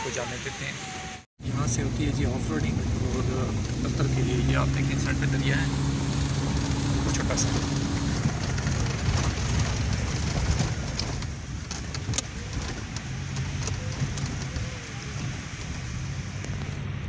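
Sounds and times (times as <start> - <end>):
engine and tyres rumbling: 0.0 - 17.0.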